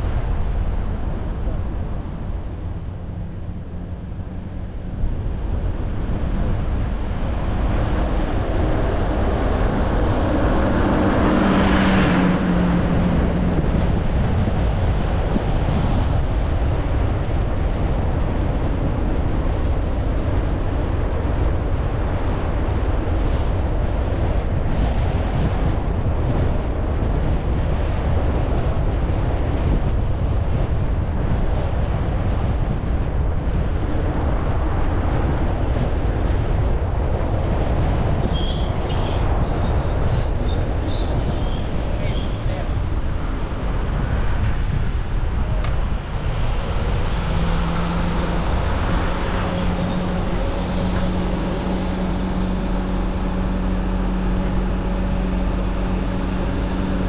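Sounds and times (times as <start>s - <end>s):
car engine and tyres rumbling: 0.0s - 57.0s
wind buffeting microphone: 0.0s - 57.0s.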